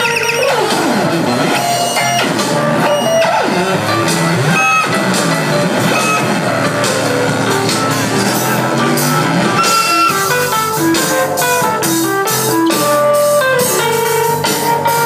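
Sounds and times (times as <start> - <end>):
guitar: 0.0 - 15.0
melody of held notes: 0.0 - 15.0
drum kit steady beat: 0.7 - 15.0.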